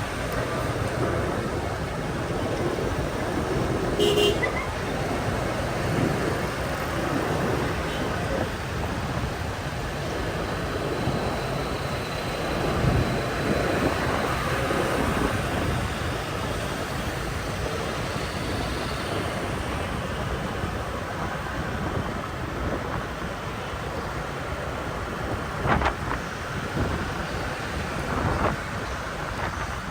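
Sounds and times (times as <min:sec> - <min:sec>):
city traffic: 0:00.0 - 0:29.9
wind rushing over microphone: 0:00.0 - 0:29.9.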